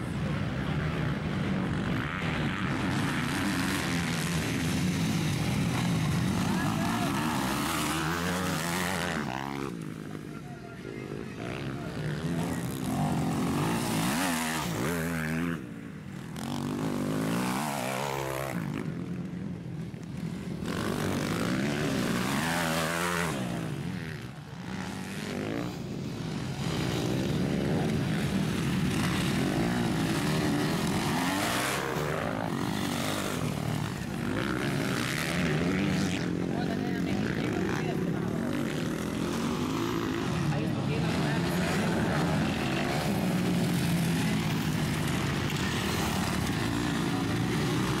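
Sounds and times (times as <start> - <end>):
motocross bikes revving past: 0.0 - 48.0.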